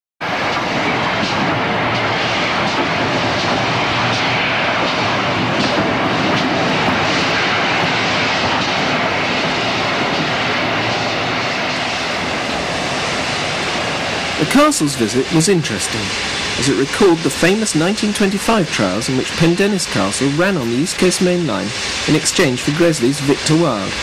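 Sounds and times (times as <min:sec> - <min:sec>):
steam locomotive roaring: 0:00.2 - 0:24.0.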